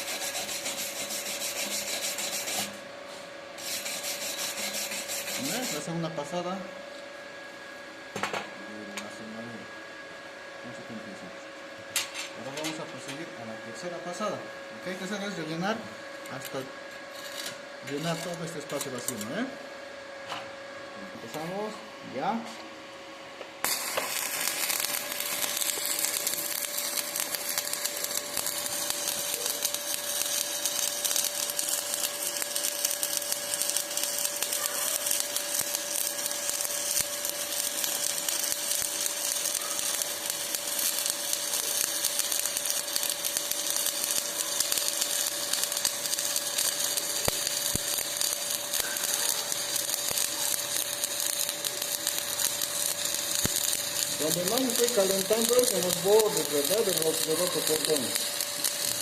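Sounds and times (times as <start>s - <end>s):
welding arc crackling and hissing: 0.0s - 6.5s, 12.4s - 19.5s, 21.1s - 21.8s, 23.6s - 59.0s
steady hum: 0.0s - 59.0s.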